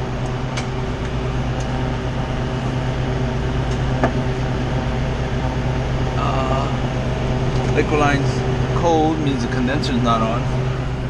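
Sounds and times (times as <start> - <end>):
freezer fan motors humming: 0.0 - 11.0.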